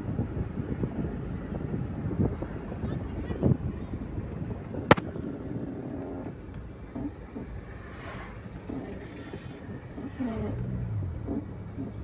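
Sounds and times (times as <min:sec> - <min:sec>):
vehicle road and engine noise: 0:00.0 - 0:12.0.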